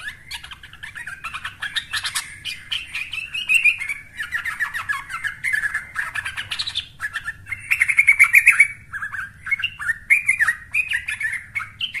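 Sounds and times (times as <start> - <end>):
bird chattering song: 0.0 - 12.0.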